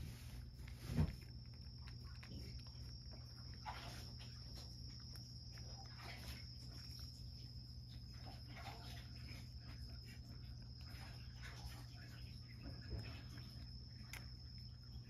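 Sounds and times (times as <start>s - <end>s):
cat licking plate: 0.0s - 15.0s.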